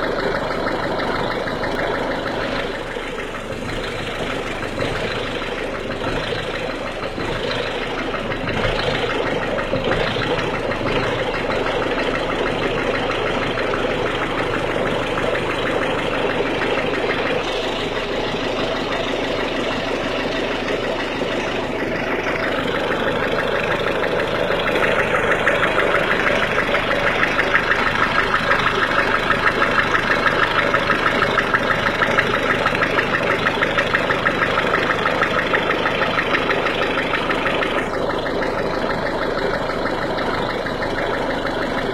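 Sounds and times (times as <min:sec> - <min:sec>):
diesel engine idling clatter: 0:00.0 - 0:41.9.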